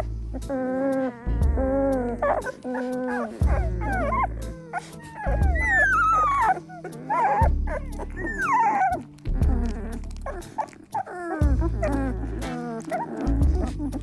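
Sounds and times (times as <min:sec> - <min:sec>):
blues music with bass line: 0:00.0 - 0:14.0
puppies whimpering and squeaking: 0:00.0 - 0:14.0.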